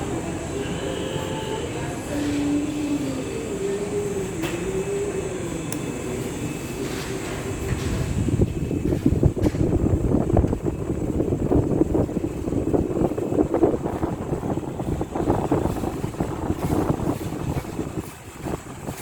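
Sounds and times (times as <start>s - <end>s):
fan wind noise on microphone: 0.0s - 19.0s.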